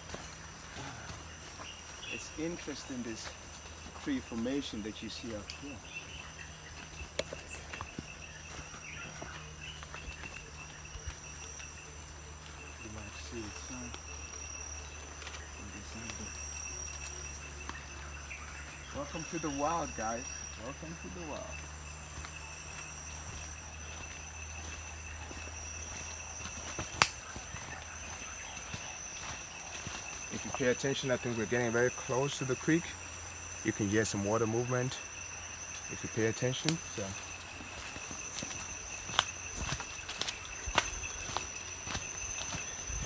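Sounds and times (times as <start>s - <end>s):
footsteps on forest trail: 0.0s - 43.0s
insects buzzing: 0.0s - 43.0s
insects pulsing chirp: 0.0s - 43.0s.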